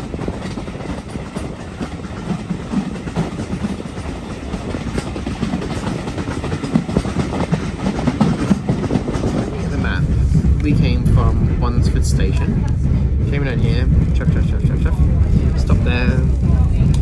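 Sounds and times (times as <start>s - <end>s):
railway carriage rumble: 0.0s - 17.0s
wheel clatter over rails: 0.0s - 17.0s.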